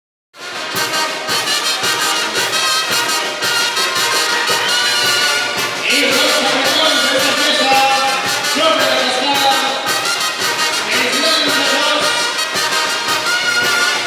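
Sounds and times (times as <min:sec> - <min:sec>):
brass band playing: 0:00.4 - 0:14.0
drum and cymbal strikes: 0:00.4 - 0:14.0.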